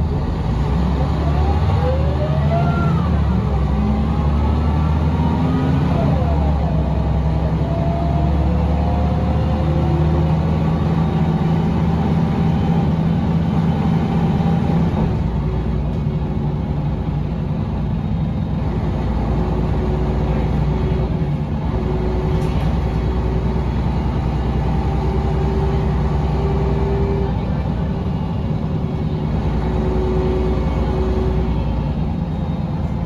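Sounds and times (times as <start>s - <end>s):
bus engine running: 0.0s - 33.0s.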